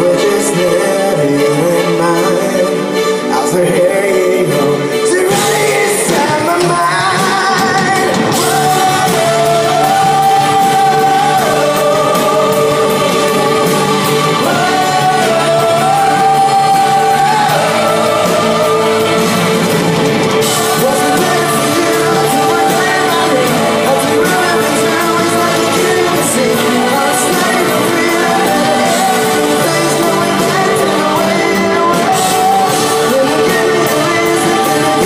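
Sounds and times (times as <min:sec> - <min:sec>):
live band playing: 0:00.0 - 0:35.0
person singing long notes: 0:00.0 - 0:35.0.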